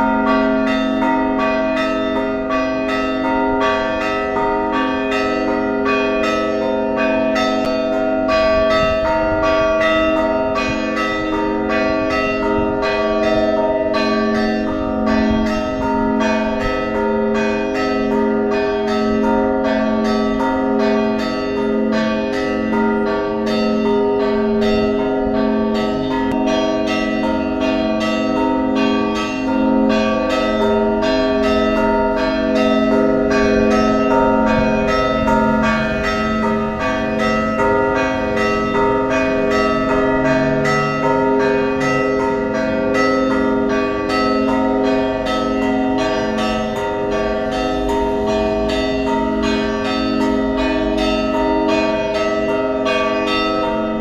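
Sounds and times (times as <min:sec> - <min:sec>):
larger bells ringing: 0:00.0 - 0:54.0.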